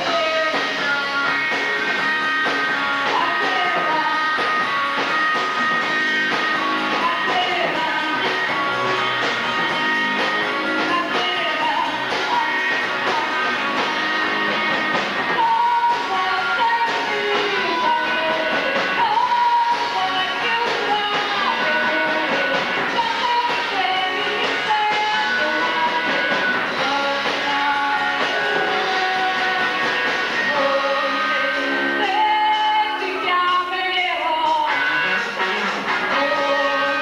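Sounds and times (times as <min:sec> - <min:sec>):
band with guitar and drums: 0:00.0 - 0:37.0
woman singing rock song: 0:00.0 - 0:37.0.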